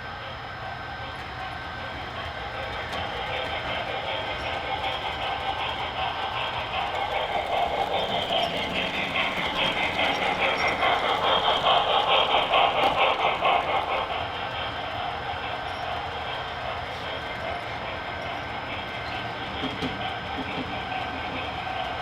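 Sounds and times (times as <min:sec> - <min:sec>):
model train wheels clicking: 0:01.1 - 0:22.0.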